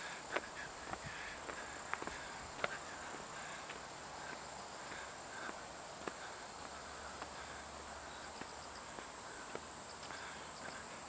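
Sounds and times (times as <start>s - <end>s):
footsteps on dirt path: 0.0s - 11.0s
insects droning: 0.0s - 11.0s.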